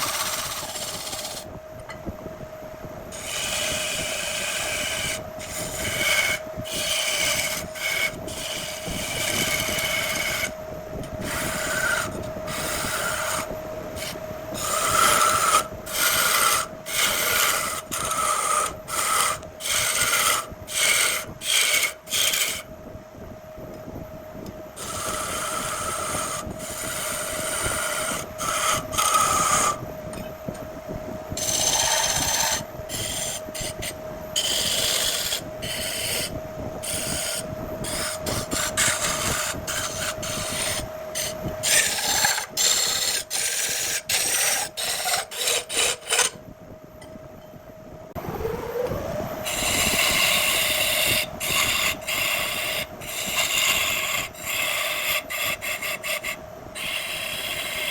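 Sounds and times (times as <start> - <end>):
turning tool scraping wood: 0.0 - 1.5, 3.1 - 22.7, 24.8 - 29.8, 31.4 - 46.4, 49.5 - 57.9
lathe humming: 0.0 - 2.0, 3.1 - 22.8, 24.8 - 30.5, 31.4 - 46.4, 48.2 - 57.9.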